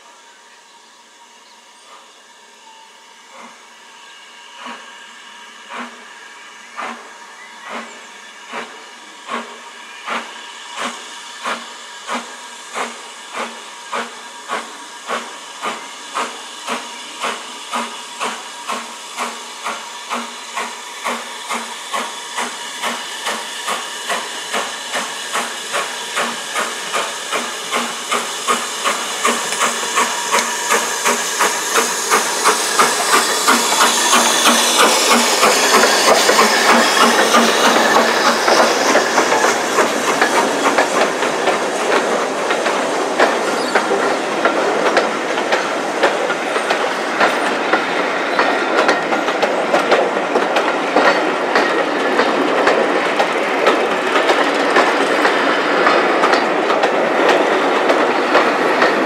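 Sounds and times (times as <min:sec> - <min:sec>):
steam hissing: 0:00.0 - 0:59.0
steam locomotive chuffing: 0:00.0 - 0:59.0.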